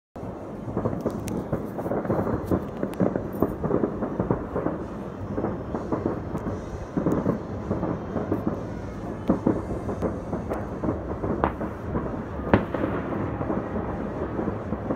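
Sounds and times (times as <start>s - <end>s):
distant fireworks bangs and crackles: 0.2s - 14.9s.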